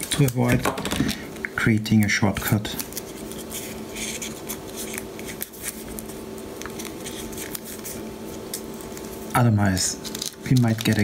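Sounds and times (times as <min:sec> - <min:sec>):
faint steady hum: 0:00.0 - 0:11.0
tape crackling and clicking: 0:00.0 - 0:11.0.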